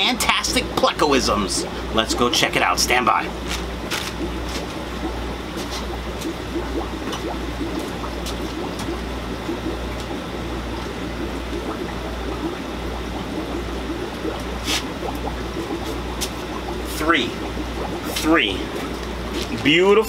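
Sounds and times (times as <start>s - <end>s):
steady low hum: 0.0s - 20.0s
water trickling and bubbling: 0.0s - 20.0s.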